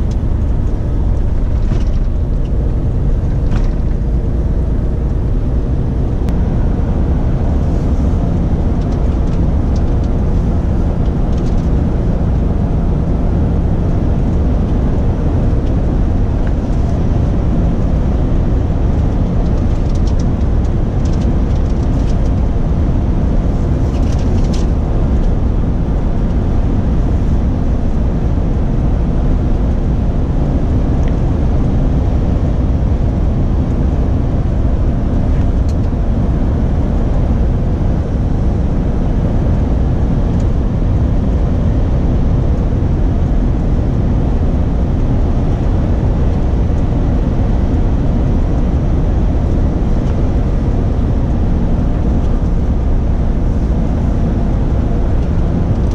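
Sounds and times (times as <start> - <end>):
truck engine and road drone: 0.0 - 55.9.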